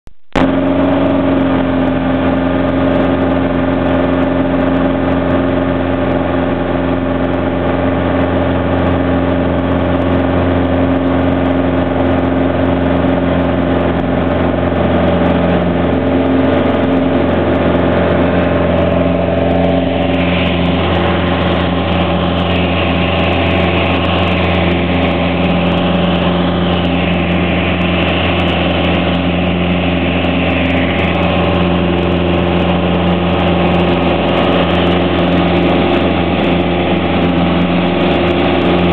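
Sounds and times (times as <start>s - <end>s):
light aircraft engine drone: 0.2s - 38.9s.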